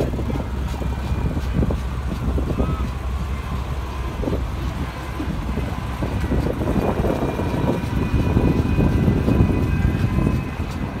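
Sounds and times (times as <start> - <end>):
fire engine engine driving past: 0.0 - 11.0.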